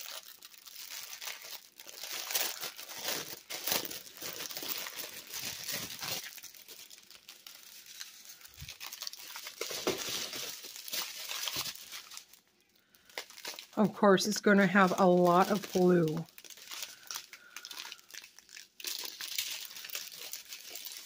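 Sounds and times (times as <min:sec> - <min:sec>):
plastic film crinkling: 0:00.0 - 0:21.0.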